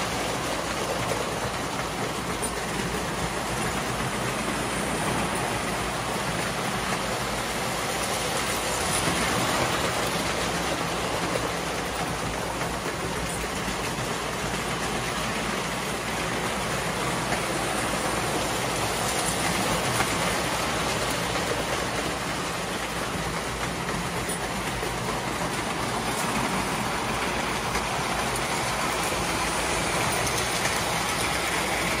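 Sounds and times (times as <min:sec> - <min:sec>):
train running on track: 0:00.0 - 0:32.0.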